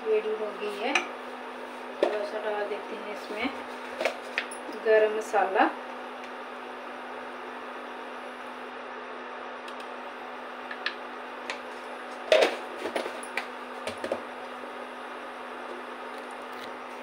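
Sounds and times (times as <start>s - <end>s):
induction cooktop hum: 0.0s - 17.0s.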